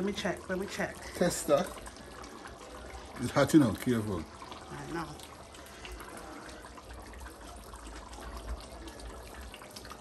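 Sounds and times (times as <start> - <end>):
stew bubbling in a pot: 0.0 - 10.0.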